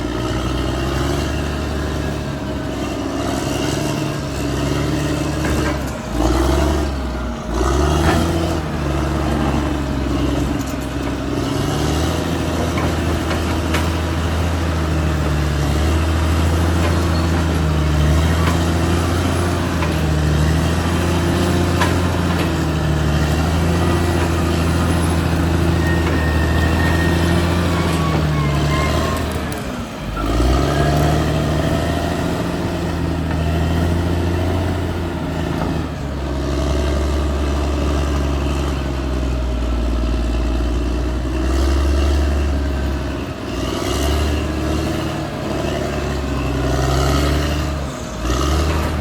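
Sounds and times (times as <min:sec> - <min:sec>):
bulldozer diesel engine running: 0:00.0 - 0:49.0.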